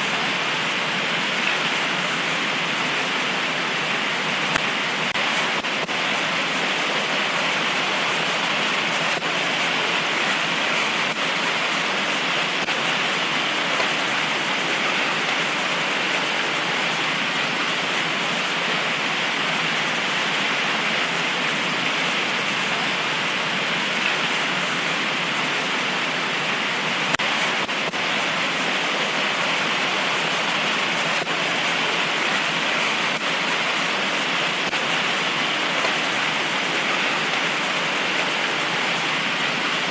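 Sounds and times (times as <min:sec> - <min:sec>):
heavy rain downpour: 0:00.0 - 0:39.9.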